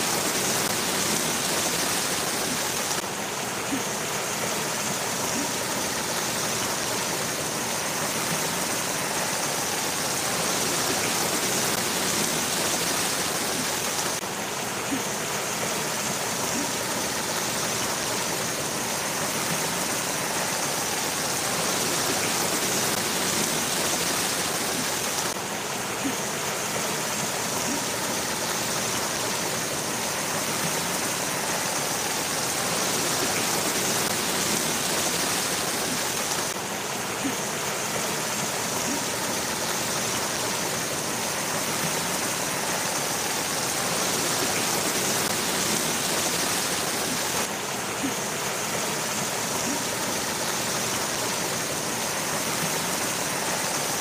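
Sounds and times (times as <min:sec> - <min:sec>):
water splashing down waterfall: 0:00.0 - 0:54.0.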